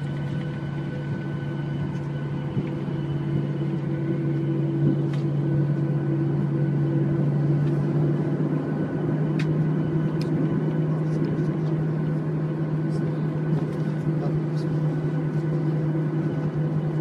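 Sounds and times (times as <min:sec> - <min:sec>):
airliner engine drone in cabin: 0:00.0 - 0:17.0.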